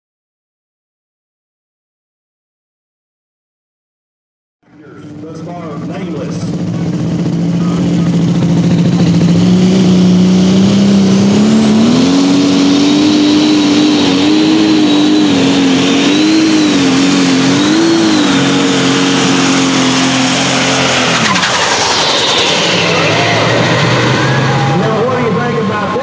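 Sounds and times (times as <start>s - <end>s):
tractor engine at full power: 4.6s - 26.0s.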